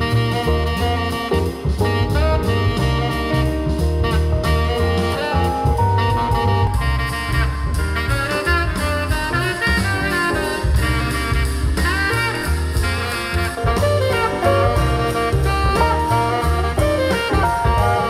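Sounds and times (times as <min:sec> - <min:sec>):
jazz through loudspeakers: 0:00.0 - 0:18.0.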